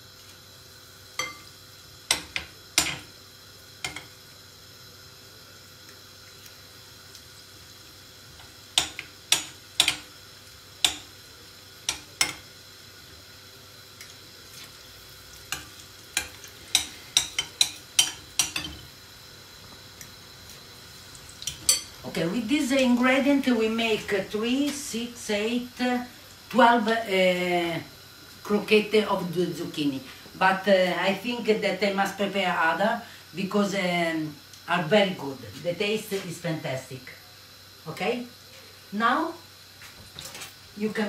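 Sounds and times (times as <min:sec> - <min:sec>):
fritters sizzling in hot oil: 0:00.0 - 0:36.6, 0:37.3 - 0:41.0.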